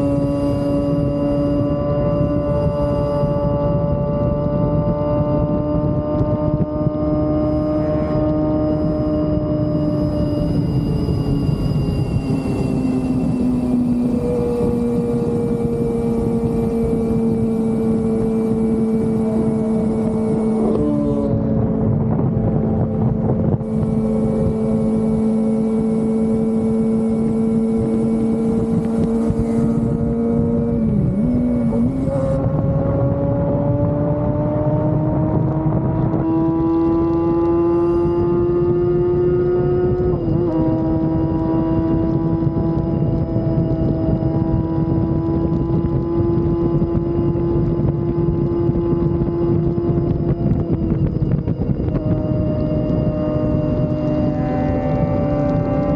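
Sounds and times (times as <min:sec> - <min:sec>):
motorcycle engine at high revs: 0:00.0 - 0:55.9
wind rushing over microphone: 0:00.0 - 0:55.9.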